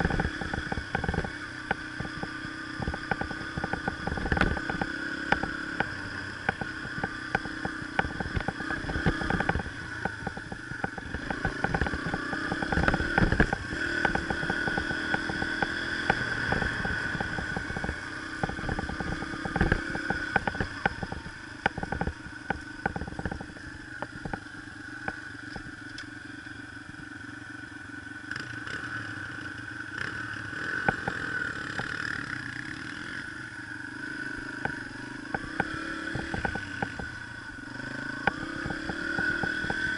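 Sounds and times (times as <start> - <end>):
knocks and rattles over rough ground: 0.0 - 26.1, 29.5 - 33.4, 34.2 - 39.9
dirt bike engine running: 0.0 - 39.9.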